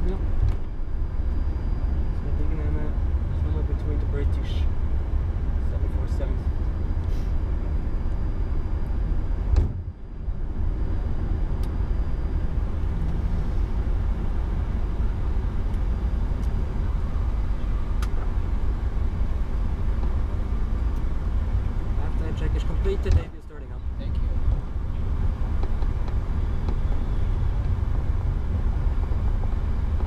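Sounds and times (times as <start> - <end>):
aircraft engines idling rumble: 0.0 - 30.0.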